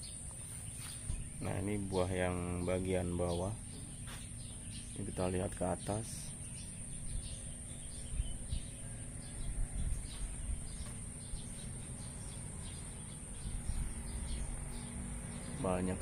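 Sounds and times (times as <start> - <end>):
low microphone rumble: 0.0 - 16.0.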